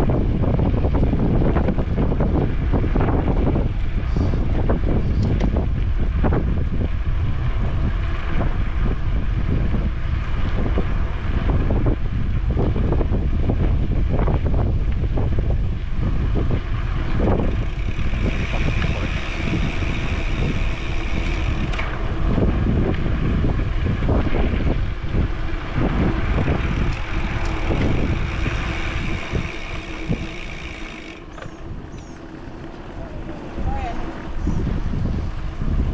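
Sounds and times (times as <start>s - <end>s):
bicycle tyre rumble on asphalt: 0.0s - 35.9s
wind buffeting microphone: 0.0s - 35.9s.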